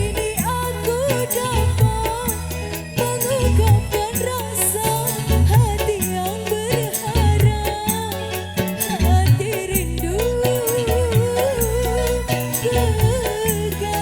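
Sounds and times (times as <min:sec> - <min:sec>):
folk song with ornamented melody: 0:00.0 - 0:14.0
low repeating bass pattern: 0:00.0 - 0:14.0.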